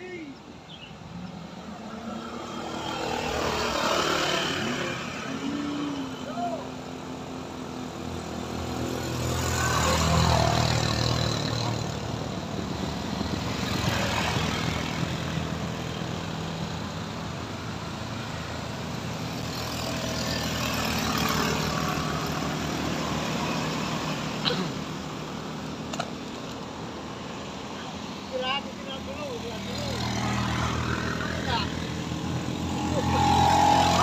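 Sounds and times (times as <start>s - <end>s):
cars and scooters passing: 0.0s - 34.0s.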